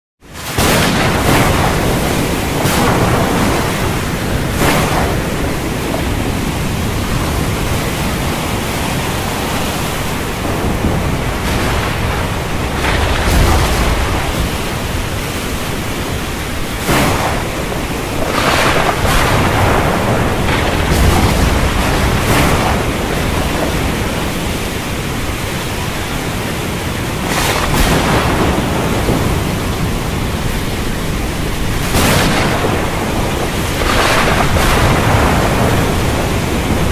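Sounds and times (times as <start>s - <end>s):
heavy rain: 0.2s - 36.9s
low thunder rumbles: 0.4s - 36.9s
thunder cracks: 0.4s - 36.9s.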